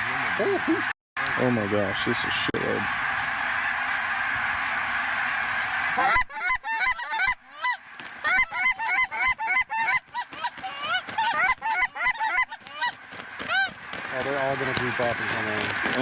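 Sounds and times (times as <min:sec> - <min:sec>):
geese honking: 0:01.2 - 0:16.0.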